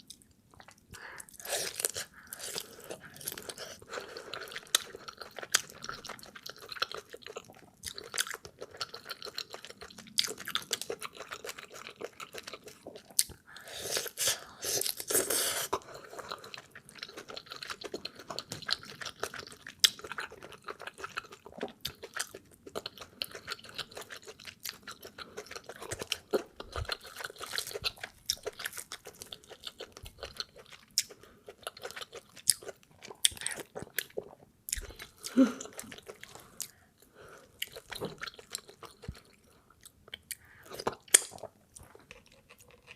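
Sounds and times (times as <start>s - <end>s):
chewing with mouth smacks: 0.0s - 36.8s, 37.5s - 42.9s.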